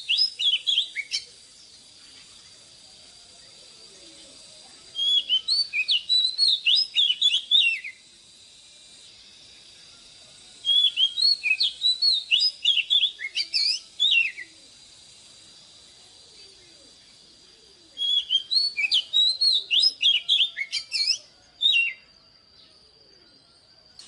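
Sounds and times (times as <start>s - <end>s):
bird singing whistled notes: 0.0s - 2.5s, 3.4s - 24.0s.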